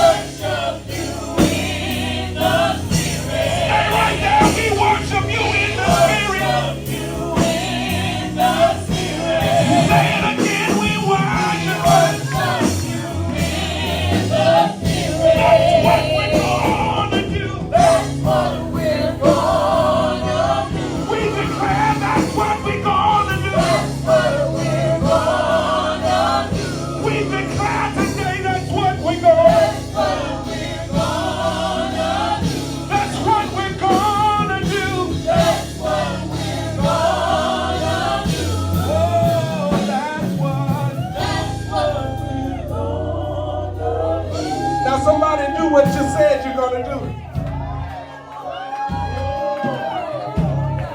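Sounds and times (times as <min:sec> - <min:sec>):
choir singing: 0:00.0 - 0:47.0
band playing gospel music: 0:00.0 - 0:50.9.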